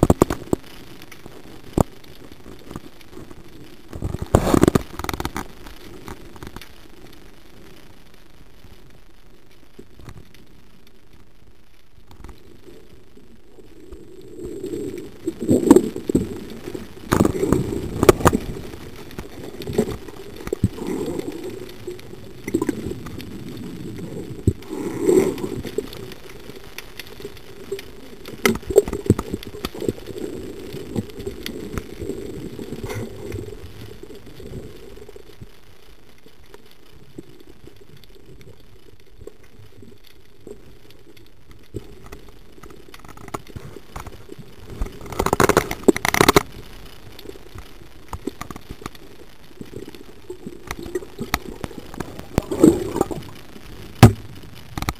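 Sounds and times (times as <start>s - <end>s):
knocks and clicks underwater: 0.0s - 6.8s, 12.0s - 12.9s, 13.6s - 35.6s, 36.2s - 54.9s
low steady hiss: 0.0s - 54.9s
underwater rumble of water: 0.0s - 54.9s.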